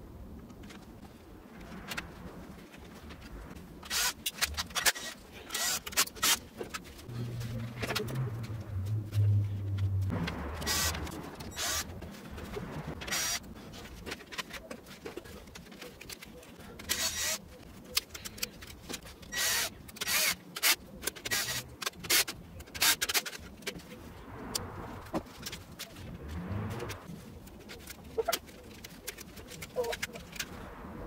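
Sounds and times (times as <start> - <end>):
parts clicking and rattling: 1.6 - 30.7.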